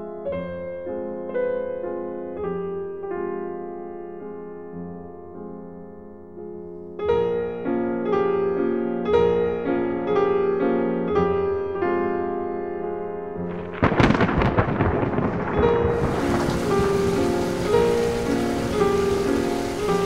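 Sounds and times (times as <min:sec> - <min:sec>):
soundtrack piano music: 0:00.0 - 0:20.0.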